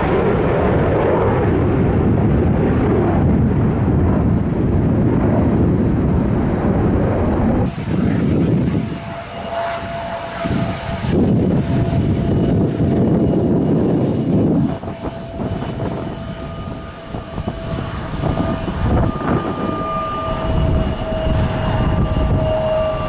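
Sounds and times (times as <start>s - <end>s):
jet engine rumble: 0.0s - 23.0s
jet engine whine: 0.0s - 23.0s.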